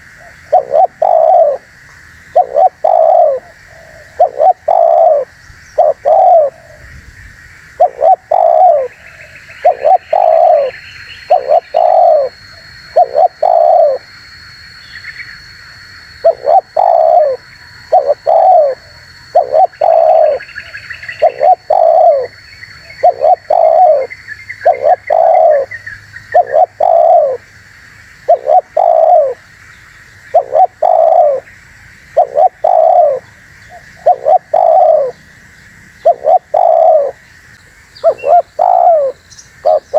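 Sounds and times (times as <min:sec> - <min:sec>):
dove cooing: 0:00.0 - 0:07.0, 0:07.8 - 0:14.1, 0:16.2 - 0:27.5, 0:28.2 - 0:29.5, 0:30.3 - 0:31.5, 0:32.1 - 0:35.3, 0:36.0 - 0:37.2, 0:38.0 - 0:39.9.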